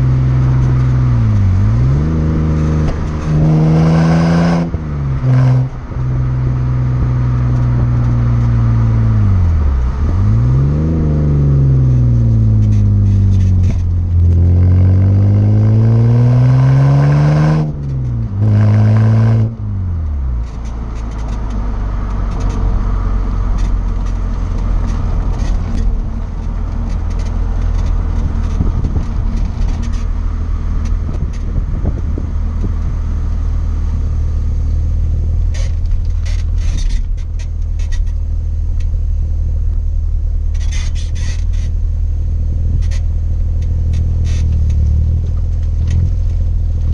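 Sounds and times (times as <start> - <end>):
car engine rising and falling: 0.0 - 46.9
road noise: 0.0 - 46.9.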